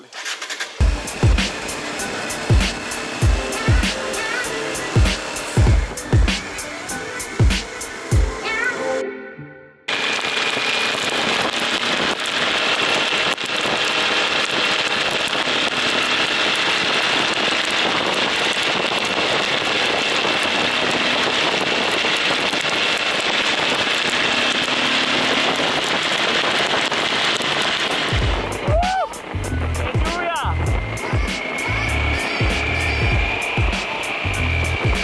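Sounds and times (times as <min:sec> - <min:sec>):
heavy rain hiss: 0:00.0 - 0:08.7, 0:09.9 - 0:35.0.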